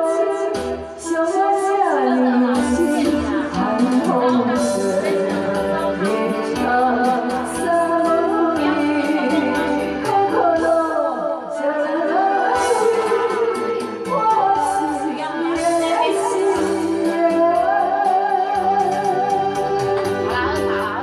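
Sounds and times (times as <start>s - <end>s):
backing music: 0.0s - 21.0s
woman singing into microphone: 0.0s - 21.0s.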